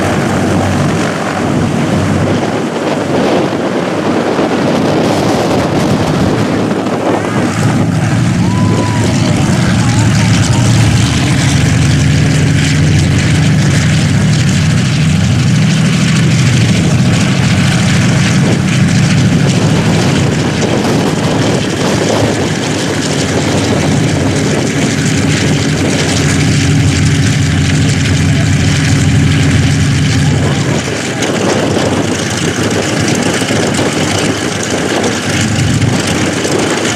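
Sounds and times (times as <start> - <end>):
propeller engines droning: 0.0 - 36.9.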